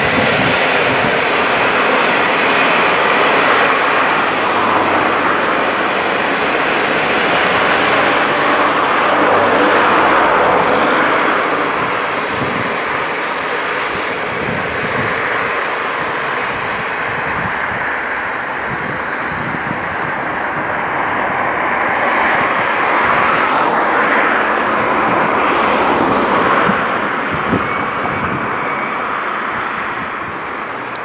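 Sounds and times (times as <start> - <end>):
passenger train rushing: 0.0 - 31.0
stream water flowing: 0.0 - 31.0.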